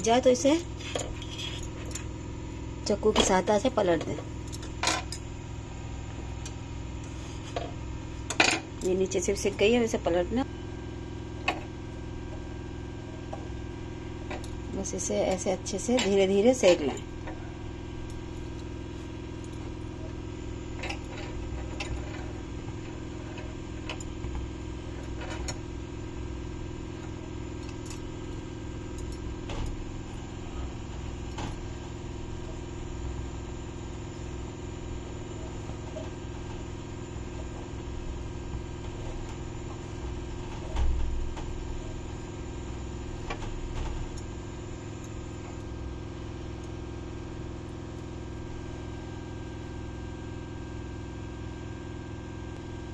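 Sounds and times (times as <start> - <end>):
gas burner humming: 0.0 - 52.9.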